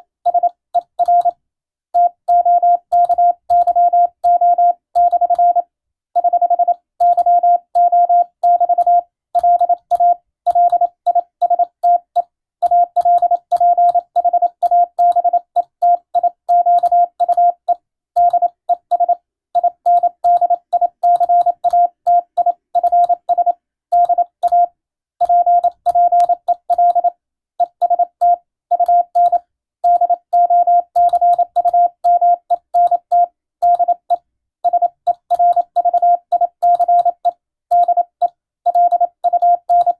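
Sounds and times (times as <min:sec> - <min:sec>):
morse code beeps: 0:02.0 - 0:05.6, 0:06.2 - 0:12.0, 0:12.6 - 0:39.9.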